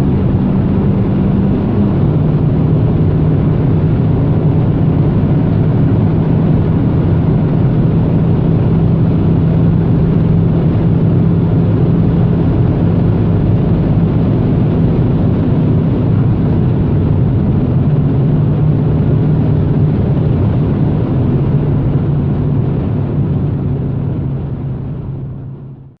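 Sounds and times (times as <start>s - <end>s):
wind noise: 0.0s - 25.9s
car engine droning at high revs: 0.0s - 26.0s
road noise: 0.0s - 26.0s.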